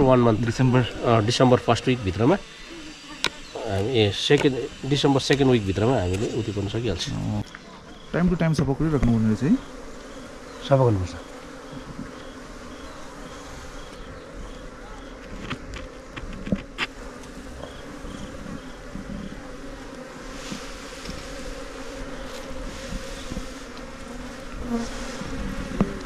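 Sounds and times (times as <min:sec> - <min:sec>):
honeybees buzzing: 0:00.0 - 0:26.0.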